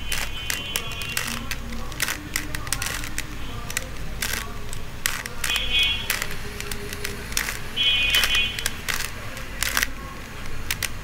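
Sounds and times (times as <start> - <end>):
plastic puzzle cube clicking: 0.0 - 11.0.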